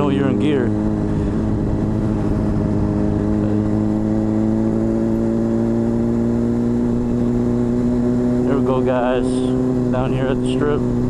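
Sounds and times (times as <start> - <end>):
motorcycle engine at low revs: 0.0 - 11.0
road noise: 0.0 - 11.0.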